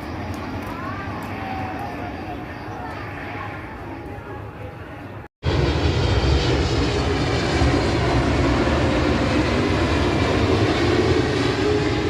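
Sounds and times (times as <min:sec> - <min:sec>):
aeroplane engine drone: 0:00.0 - 0:12.0.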